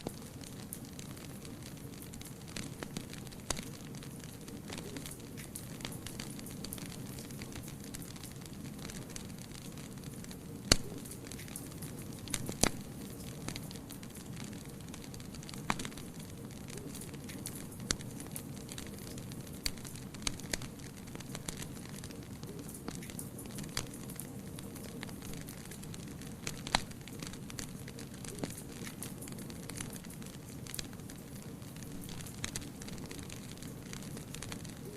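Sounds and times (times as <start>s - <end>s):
fireplace fire crackling and popping: 0.0s - 34.9s.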